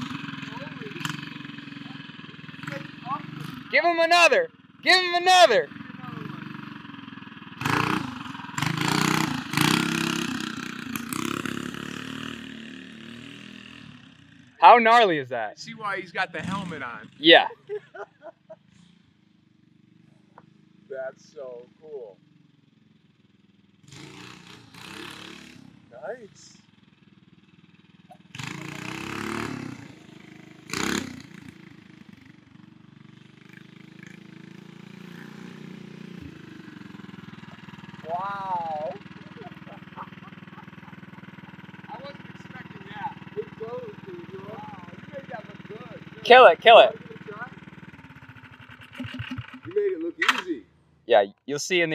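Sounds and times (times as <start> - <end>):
mini bike engine revving: 0.0 - 50.7.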